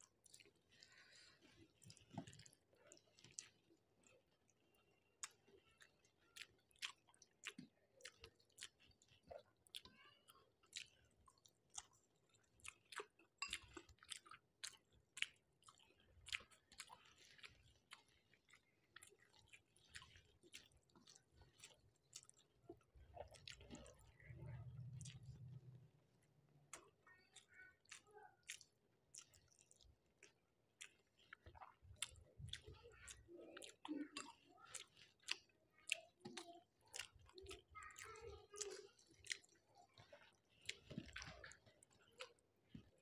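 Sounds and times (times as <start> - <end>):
wet chewing and lip smacks: 0.0 - 43.0.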